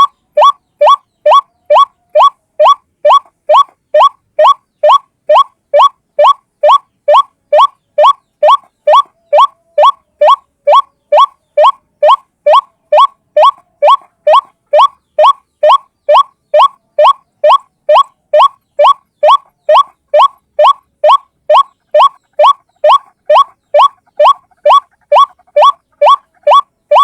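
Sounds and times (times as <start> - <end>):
bird calling rising notes: 0.0 - 27.0.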